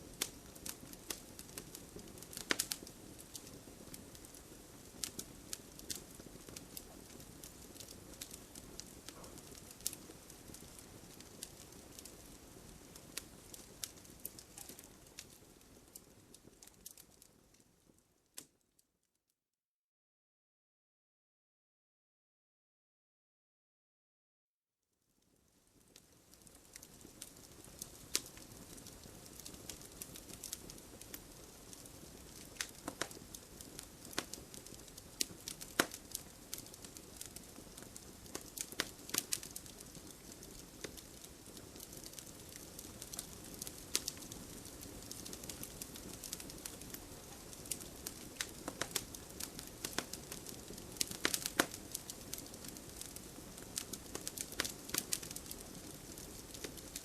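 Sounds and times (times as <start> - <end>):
wood fire crackling and hissing: 0.0 - 18.6, 25.3 - 57.0.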